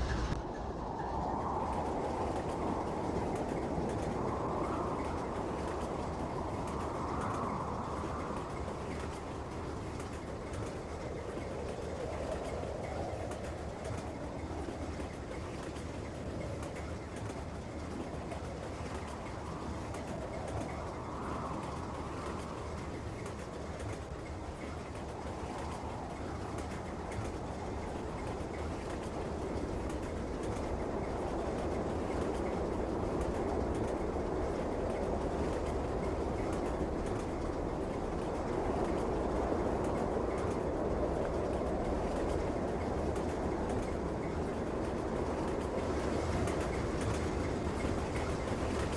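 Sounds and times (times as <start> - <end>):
train running: 0.0 - 48.9.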